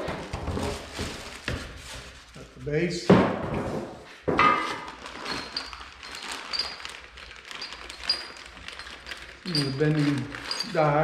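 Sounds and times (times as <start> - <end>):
plastic wrapping crackling: 0.0 - 2.6, 4.6 - 11.0.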